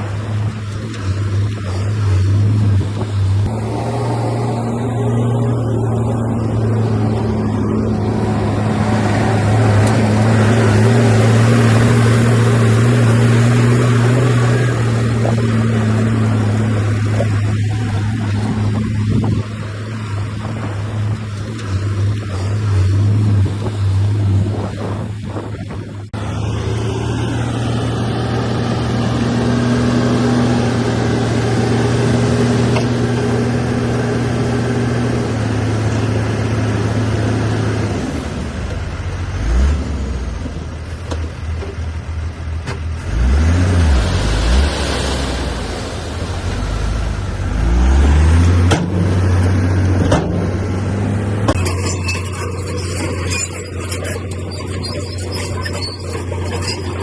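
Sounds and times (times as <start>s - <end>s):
heavy machinery diesel engine revving: 0.0s - 57.0s.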